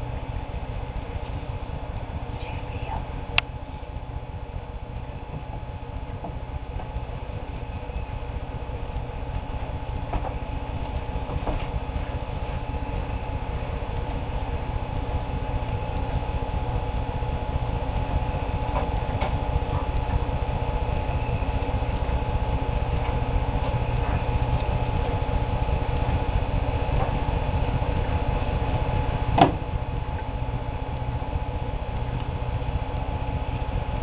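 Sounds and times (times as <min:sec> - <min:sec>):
mechanical hum and hiss: 0:00.0 - 0:34.0.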